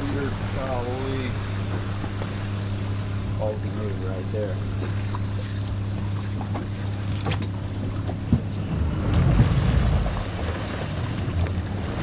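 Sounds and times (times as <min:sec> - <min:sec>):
outboard motor running: 0:00.0 - 0:12.0
water noise: 0:00.0 - 0:12.0.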